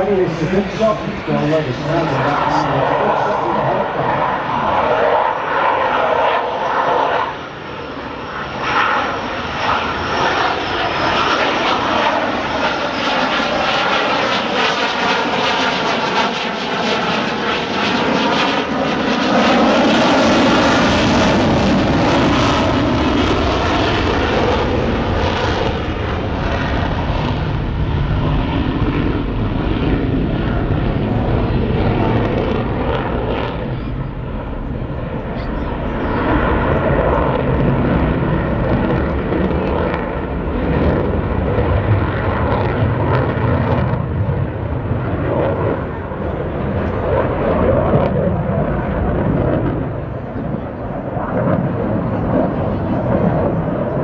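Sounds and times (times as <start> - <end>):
fighter jet flying past: 0.0 - 54.0.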